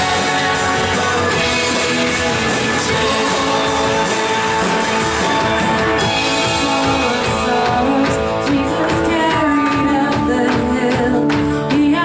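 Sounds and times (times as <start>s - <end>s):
live rock worship band: 0.0s - 12.0s.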